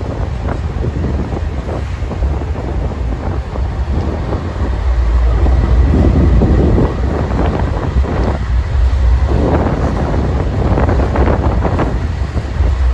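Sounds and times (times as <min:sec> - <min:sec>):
diesel locomotive engine rumble: 0:00.0 - 0:12.9
wind buffeting microphone: 0:00.0 - 0:12.9.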